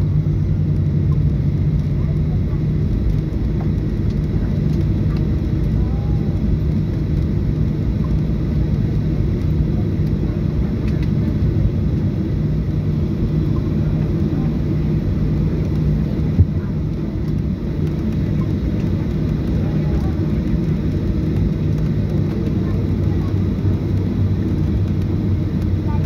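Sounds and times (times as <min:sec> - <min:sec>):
airplane cabin rumble: 0:00.0 - 0:26.0
even hum: 0:00.0 - 0:26.0.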